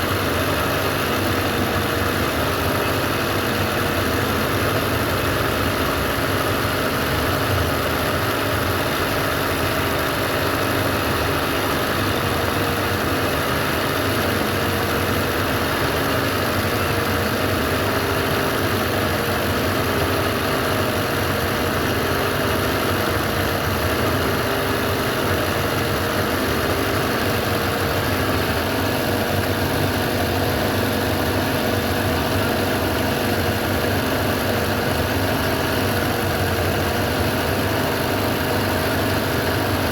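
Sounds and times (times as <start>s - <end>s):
sewing machine stitching: 0.0s - 39.9s.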